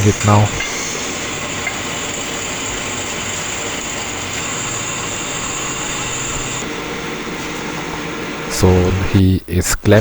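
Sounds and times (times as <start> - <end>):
machinery running: 0.0 - 9.2
high-pitched whine: 0.0 - 10.0.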